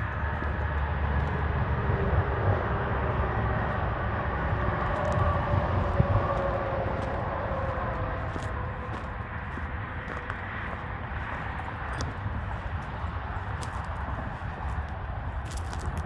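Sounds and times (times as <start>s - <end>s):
distant engine rumble: 0.0s - 16.0s.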